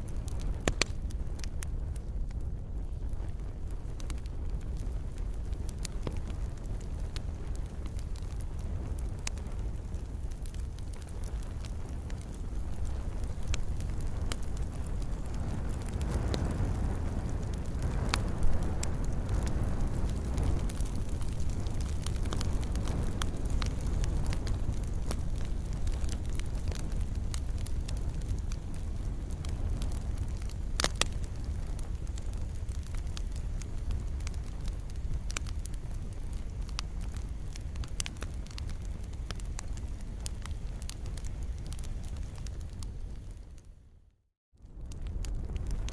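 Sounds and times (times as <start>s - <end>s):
campfire flames rumbling: 0.0s - 45.9s
fire crackling and popping: 0.0s - 45.9s.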